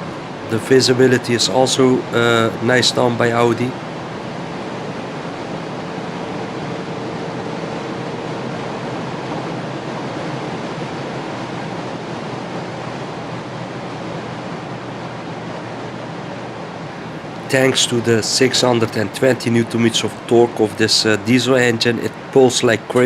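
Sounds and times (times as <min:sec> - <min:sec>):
car cabin road and wind noise: 0:00.0 - 0:23.0
faint steady hum: 0:00.0 - 0:23.0.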